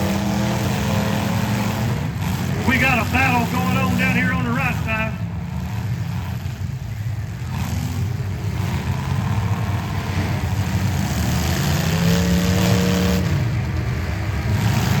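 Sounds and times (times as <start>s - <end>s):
car engines rumbling: 0.0s - 15.0s
engine revving: 0.0s - 15.0s.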